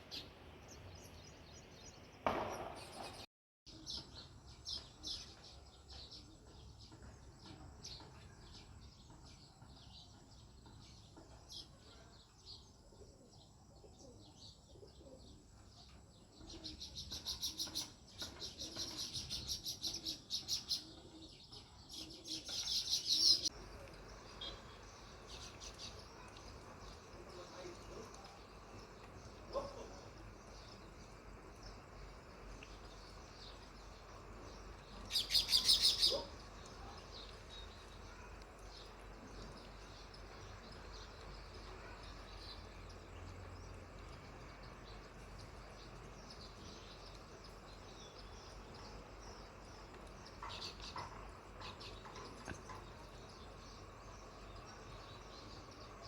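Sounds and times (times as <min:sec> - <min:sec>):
house sparrows chirping: 0:00.0 - 0:56.0.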